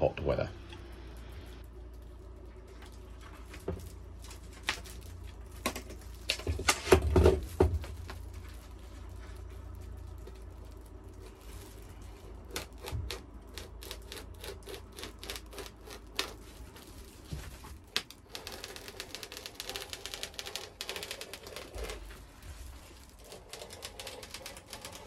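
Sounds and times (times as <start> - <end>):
knife cutting foil mat crackling: 2.7 - 25.0.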